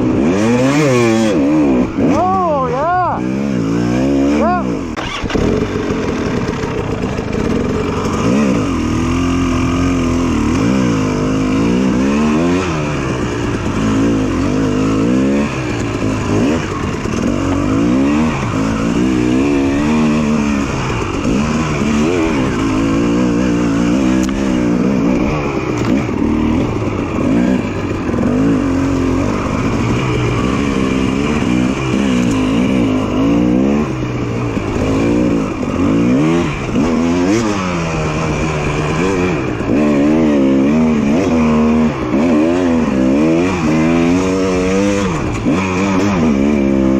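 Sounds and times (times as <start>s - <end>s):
two-stroke dirt bike engine: 0.0s - 46.9s.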